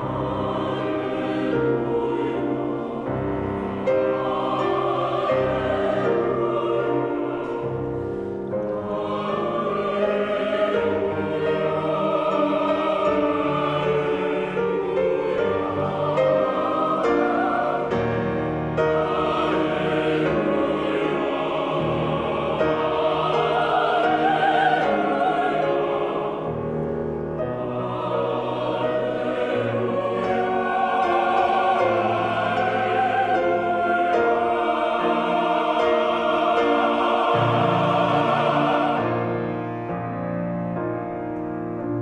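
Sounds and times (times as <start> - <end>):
choir singing sustained chords: 0.0 - 42.0
strings: 0.0 - 42.0.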